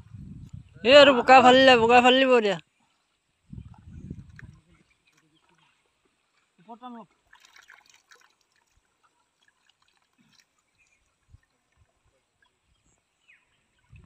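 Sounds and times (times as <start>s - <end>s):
water splashes and trickles: 1.9s - 14.0s.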